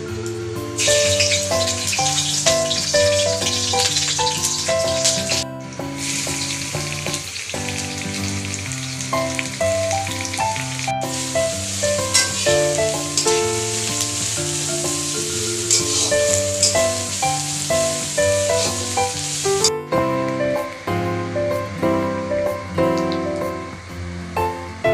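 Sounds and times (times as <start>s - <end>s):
vegetables sizzling in oil: 0.0s - 20.9s
background music: 0.0s - 24.9s.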